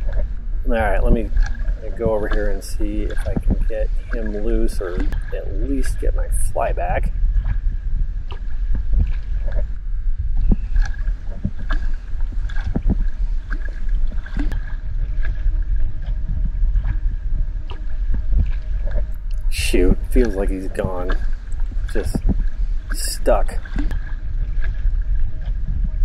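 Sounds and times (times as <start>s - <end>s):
faint high whine: 0.0s - 26.0s
water churning and lapping: 0.0s - 26.0s
wind rumble on microphone: 0.0s - 26.0s.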